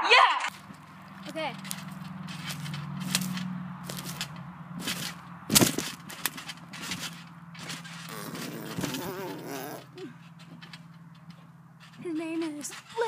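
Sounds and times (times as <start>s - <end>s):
steady low hum: 0.5s - 13.0s
trampoline mat thumps: 0.5s - 13.0s.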